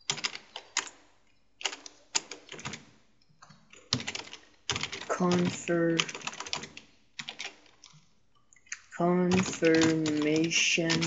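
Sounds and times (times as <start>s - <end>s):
computer keyboard keys clicking: 0.0s - 1.0s, 1.6s - 8.0s, 8.6s - 11.0s.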